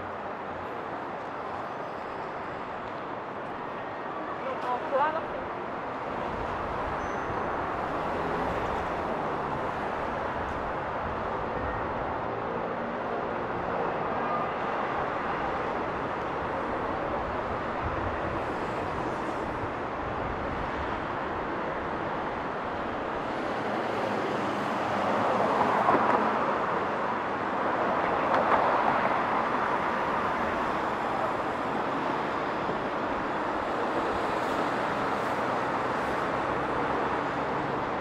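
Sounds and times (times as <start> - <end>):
city street traffic noise: 0.0 - 38.0.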